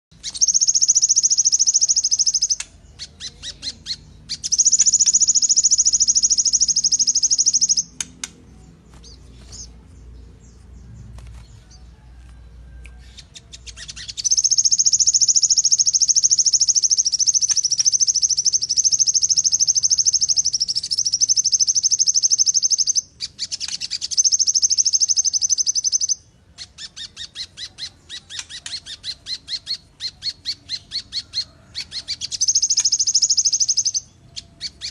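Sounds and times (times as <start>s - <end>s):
songbird high-pitched trills: 0.2s - 34.9s.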